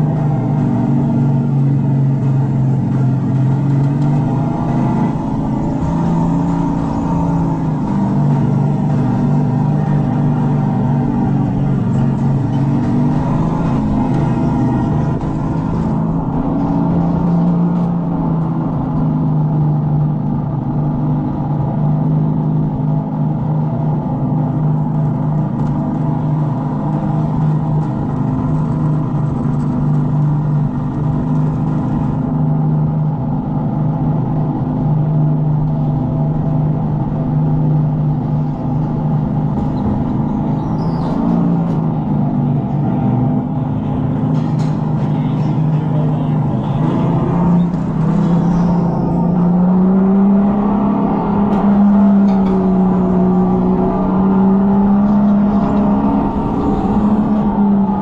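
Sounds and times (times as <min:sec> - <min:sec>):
simulated engine drone: 0:00.0 - 0:58.0.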